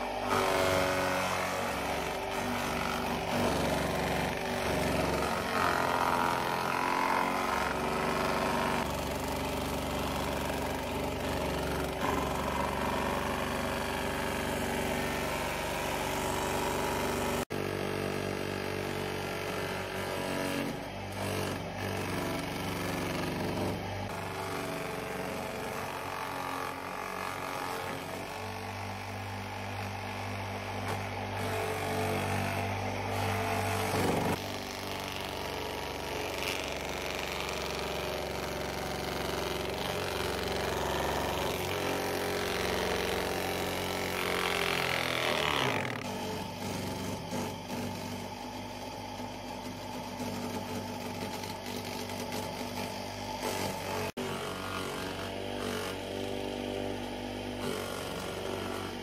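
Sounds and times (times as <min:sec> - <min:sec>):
crusher motor running: 0:00.0 - 0:59.0.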